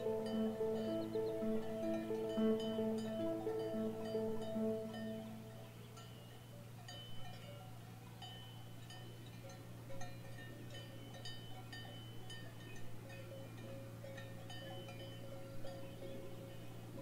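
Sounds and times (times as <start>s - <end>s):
faint cowbells clanking: 0.0s - 17.0s
low steady hum: 0.0s - 17.0s.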